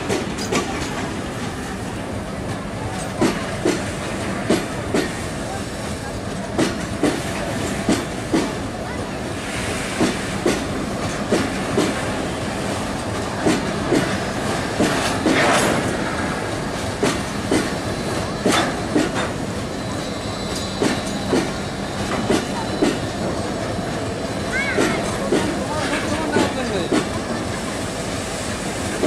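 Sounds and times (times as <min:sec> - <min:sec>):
train wheels clacking over joints: 0:00.0 - 0:01.7, 0:02.4 - 0:29.0
train rumble: 0:00.0 - 0:29.0.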